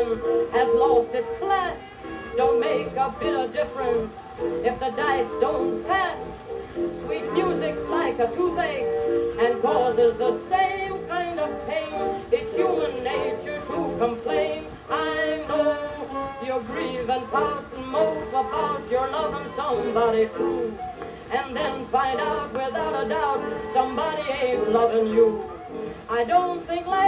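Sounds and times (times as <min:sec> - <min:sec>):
muffled old record song: 0:00.0 - 0:27.0.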